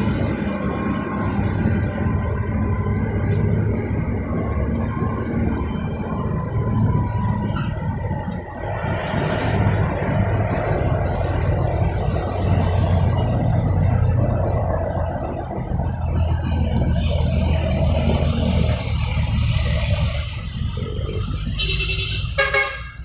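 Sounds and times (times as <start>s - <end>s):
truck diesel engines rumbling: 0.0s - 23.0s.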